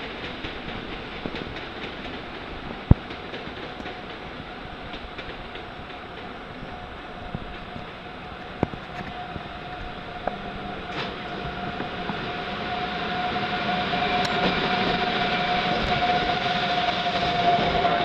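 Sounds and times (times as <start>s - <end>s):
electric locomotive whine: 0.0s - 18.0s.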